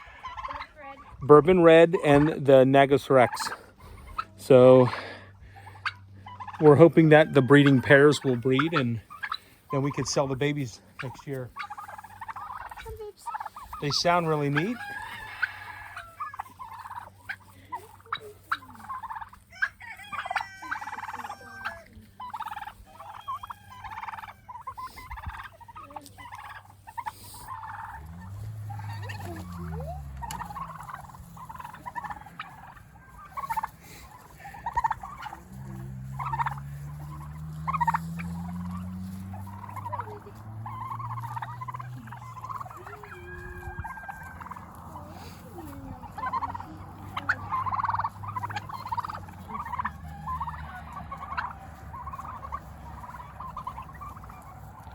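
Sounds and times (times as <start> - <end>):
turkeys gobbling: 0.0 - 54.9.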